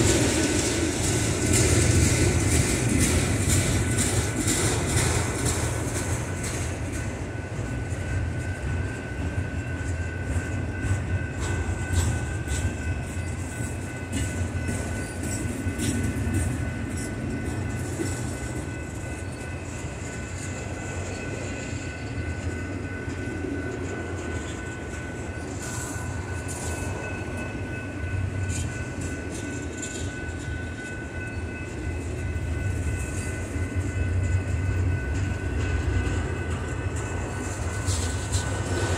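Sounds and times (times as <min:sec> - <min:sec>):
train cars clicking and clanking: 0:00.0 - 0:38.9
train wheels rumbling on rails: 0:00.0 - 0:38.9.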